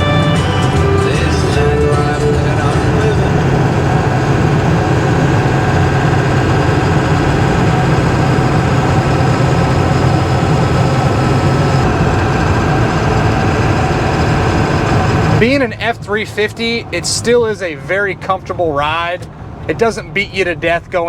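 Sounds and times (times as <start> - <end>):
diesel truck engine droning: 0.0 - 21.0
tyre and road noise: 0.0 - 21.0.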